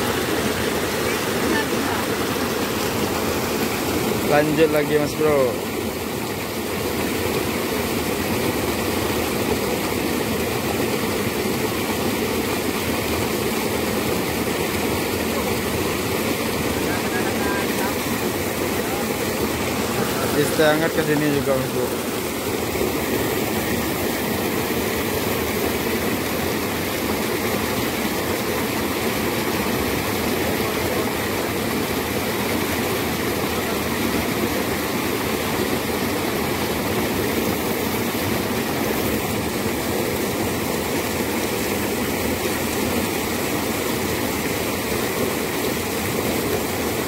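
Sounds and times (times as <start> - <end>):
water rushing in a channel: 0.0 - 47.0.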